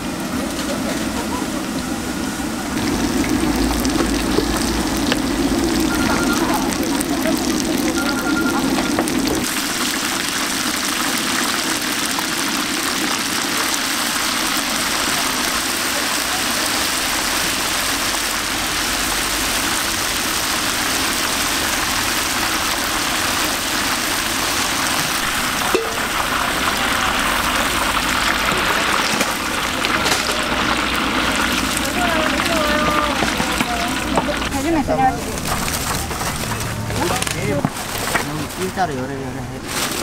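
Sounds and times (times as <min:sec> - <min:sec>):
deep-frying sizzle: 0:00.0 - 0:39.1.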